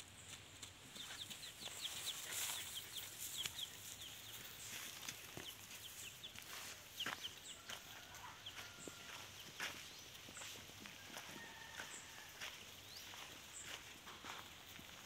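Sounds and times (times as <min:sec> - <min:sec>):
chicks peeping: 0:00.2 - 0:15.0
scuffs on dry straw: 0:00.2 - 0:15.0.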